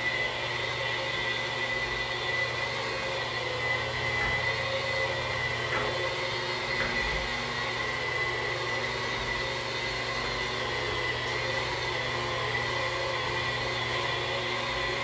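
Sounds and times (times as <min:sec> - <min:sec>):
electric polisher whining: 0:00.0 - 0:15.0.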